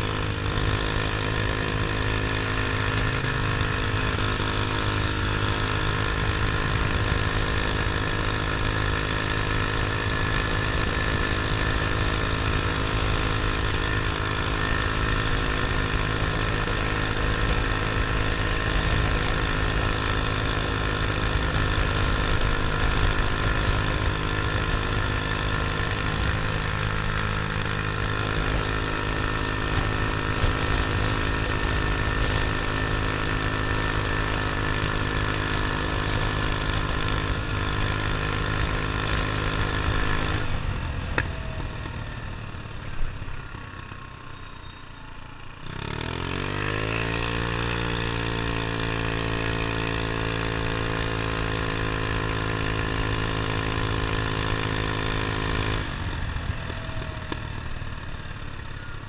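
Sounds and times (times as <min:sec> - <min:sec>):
motor scooter engine running: 0:00.0 - 0:59.0.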